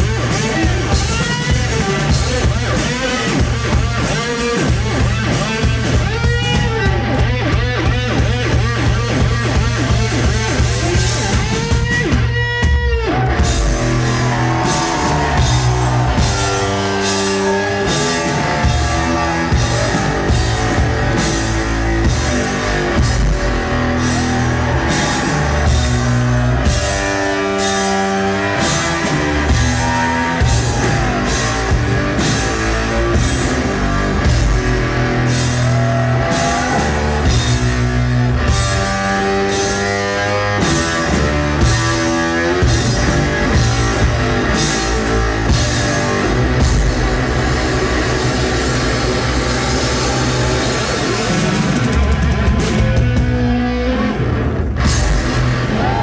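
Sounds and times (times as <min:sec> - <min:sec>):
drum kit beat: 0:00.0 - 0:53.7, 0:54.6 - 0:56.0
electric guitar riffing: 0:00.0 - 0:56.0.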